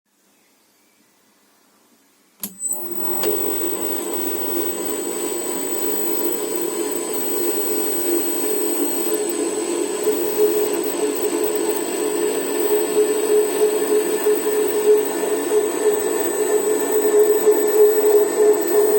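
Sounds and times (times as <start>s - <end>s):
thin high whine: 2.4s - 18.9s
lathe motor and gear hum: 2.7s - 18.9s.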